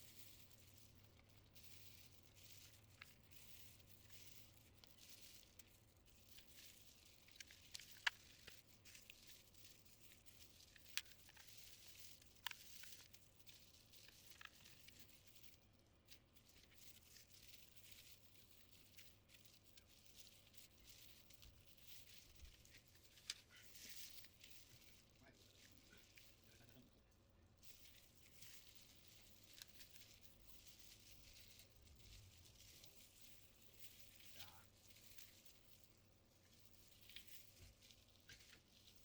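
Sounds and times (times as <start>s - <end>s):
faint rustling and scraping: 0.0s - 39.0s.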